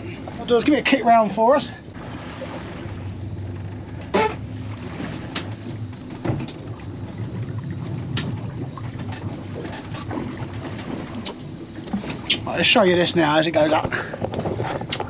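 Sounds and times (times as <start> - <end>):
outboard motor running: 0.0 - 15.0
water slapping hull: 0.0 - 15.0.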